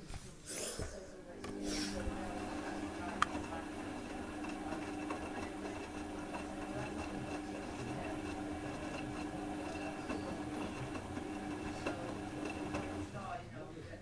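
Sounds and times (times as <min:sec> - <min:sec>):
washing machine drum spinning: 0:01.5 - 0:13.4.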